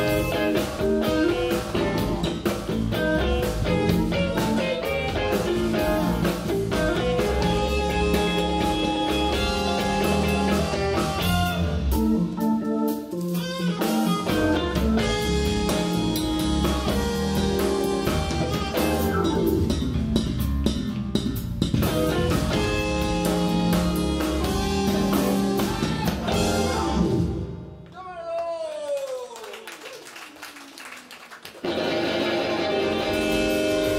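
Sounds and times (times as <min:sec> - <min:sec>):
live band playing instrumental: 0:00.0 - 0:27.7, 0:31.6 - 0:33.9.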